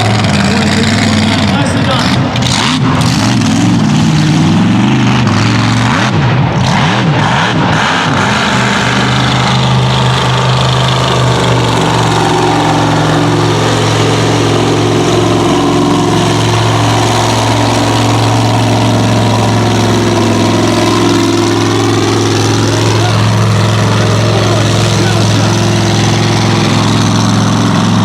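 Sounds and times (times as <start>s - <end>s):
truck engine idling loudly: 0.0s - 28.0s.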